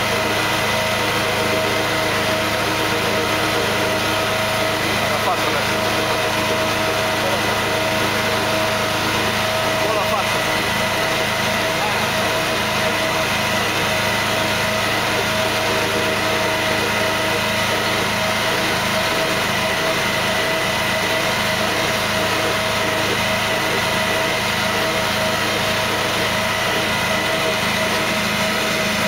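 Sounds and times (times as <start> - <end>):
conveyor machinery humming: 0.0 - 29.0.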